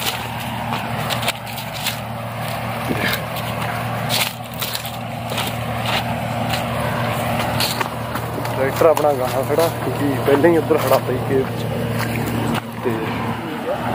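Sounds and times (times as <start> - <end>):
engine humming: 0.0 - 13.9
footsteps crunching on dry leaves: 0.0 - 13.9.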